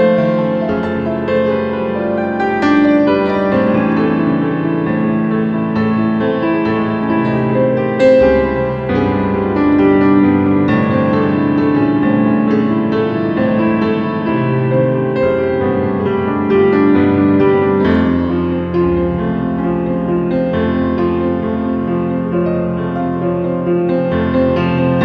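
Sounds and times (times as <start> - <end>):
piano background music: 0.0 - 25.0.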